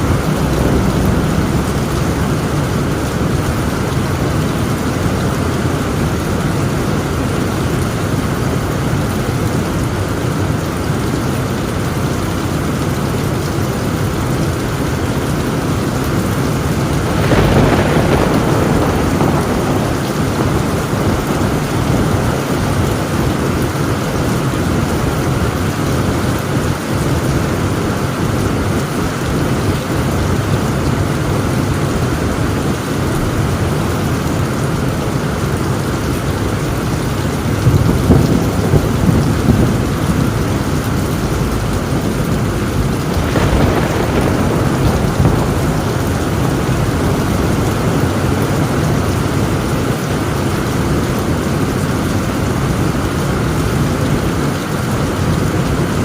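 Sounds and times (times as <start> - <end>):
heavy rain on a tin roof: 0.0 - 56.0
low roll of thunder: 0.0 - 56.0.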